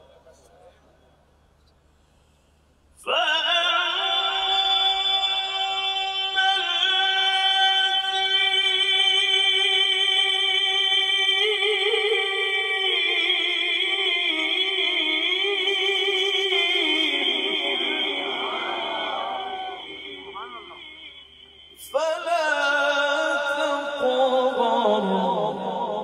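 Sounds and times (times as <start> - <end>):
man reciting melodically: 2.9 - 26.0.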